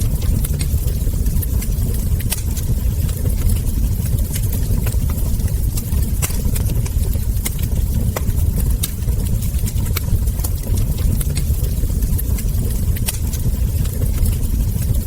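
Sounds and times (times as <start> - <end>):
burning logs popping and snapping: 0.0 - 15.0
low rumble of fire: 0.0 - 15.0
wood fire crackling: 0.0 - 15.0.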